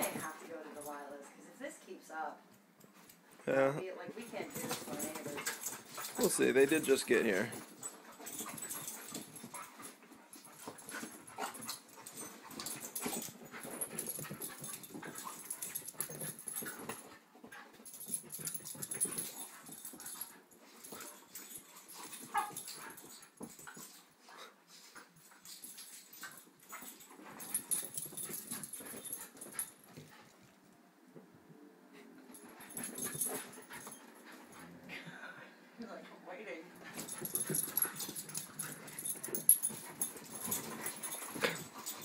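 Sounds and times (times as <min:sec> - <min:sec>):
paws scrabbling and thumping: 0:04.1 - 0:30.6, 0:32.3 - 0:34.7, 0:36.8 - 0:42.0.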